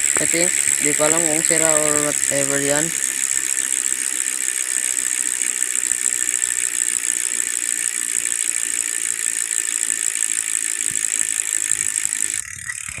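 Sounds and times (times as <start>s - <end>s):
bicycle freehub buzzing: 0.0s - 13.0s.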